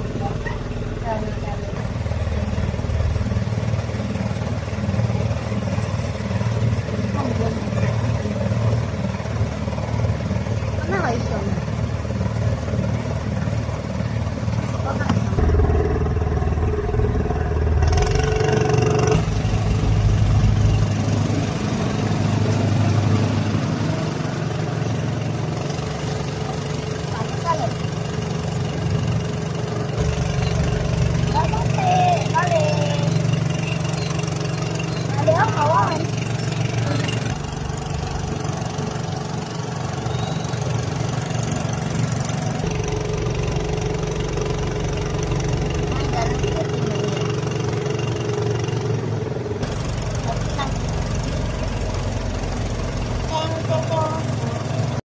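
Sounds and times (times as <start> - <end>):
small engine humming: 0.0 - 55.0.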